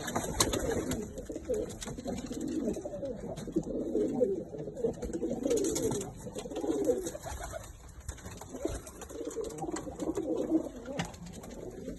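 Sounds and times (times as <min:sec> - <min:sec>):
pigeons cooing: 0:00.0 - 0:07.8, 0:08.4 - 0:11.9.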